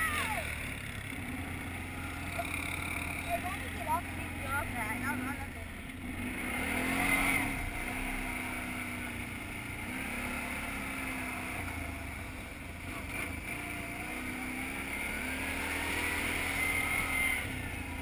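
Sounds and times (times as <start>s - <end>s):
quad engine revving: 0.0s - 18.0s.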